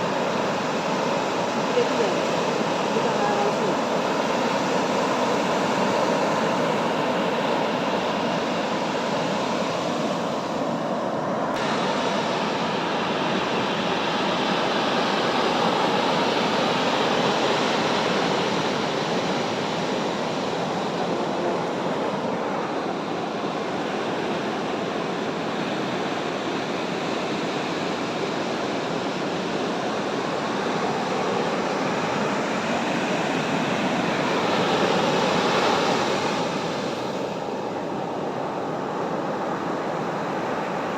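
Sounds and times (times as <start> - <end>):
sea surf washing: 0.0 - 40.9.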